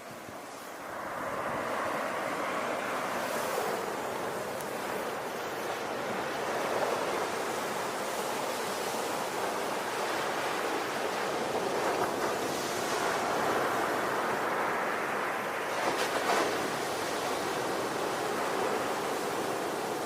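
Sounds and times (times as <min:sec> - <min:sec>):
ocean waves on shore: 0:00.0 - 0:20.0.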